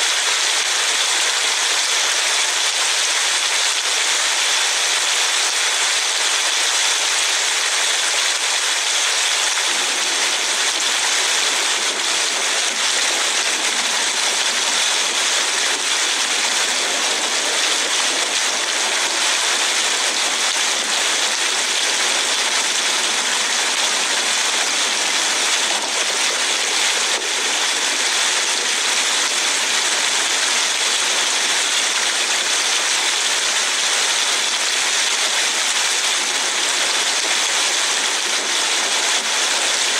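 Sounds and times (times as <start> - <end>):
rain hissing on a car: 0.0 - 39.9.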